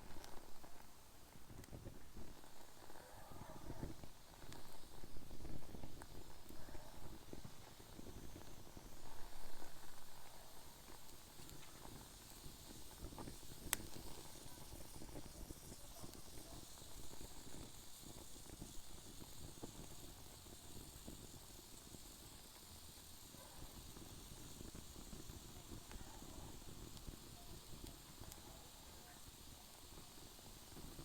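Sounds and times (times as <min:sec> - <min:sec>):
fire popping: 0:00.0 - 0:31.0
wood fire crackling: 0:00.0 - 0:31.0.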